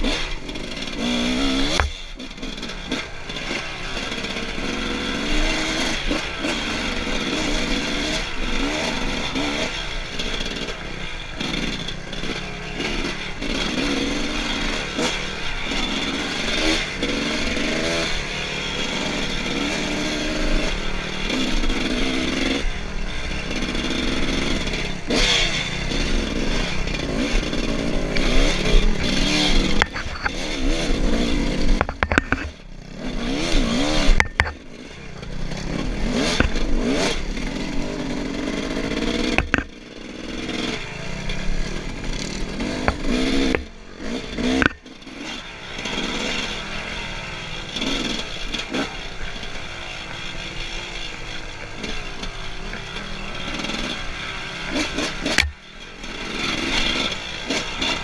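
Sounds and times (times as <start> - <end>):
bike rattling over bumps: 0.0 - 58.0
dirt bike engine revving: 0.0 - 58.0.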